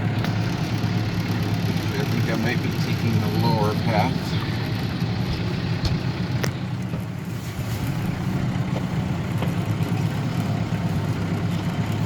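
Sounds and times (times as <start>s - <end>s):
farm vehicle engine droning: 0.0s - 12.0s.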